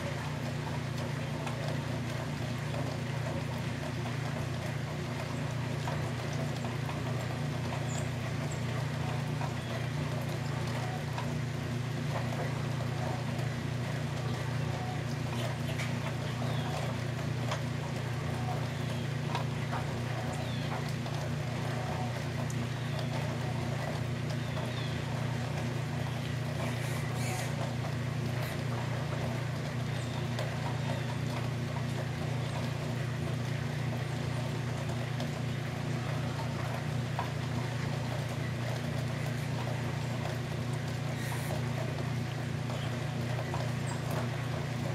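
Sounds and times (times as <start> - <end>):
low mechanical drone: 0.0 - 44.9.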